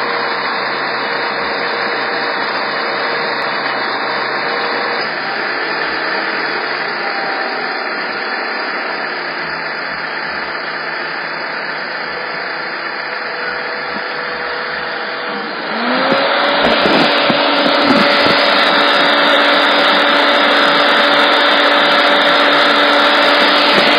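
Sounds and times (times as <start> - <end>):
car air-conditioning compressor noise: 0.0 - 23.9
rising whine: 0.0 - 23.9.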